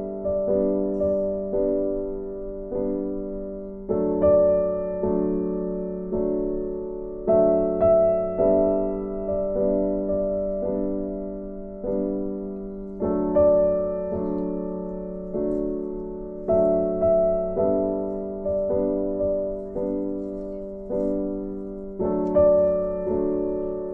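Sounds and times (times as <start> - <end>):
slow piano music: 0.0 - 23.9.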